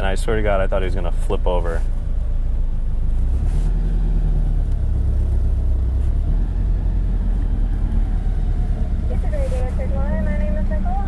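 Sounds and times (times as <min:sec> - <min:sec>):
car engine idling from inside cabin: 0:00.0 - 0:11.0.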